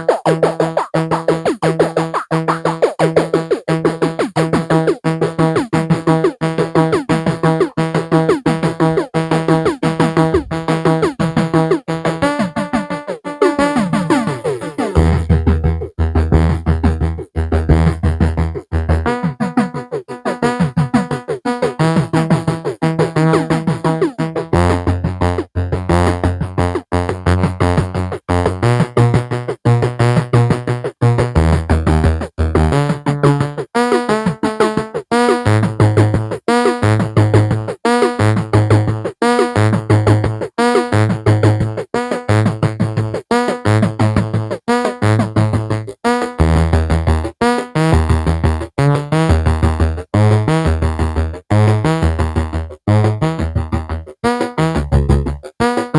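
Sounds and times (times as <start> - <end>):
electronic synthesizer music: 0.0 - 55.9.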